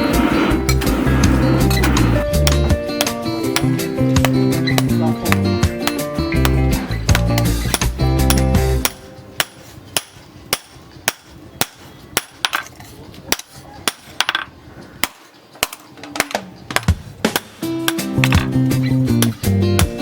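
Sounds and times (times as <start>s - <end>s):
hammer striking metal on anvil: 2.3s - 12.7s, 13.3s - 18.6s, 19.2s - 19.9s.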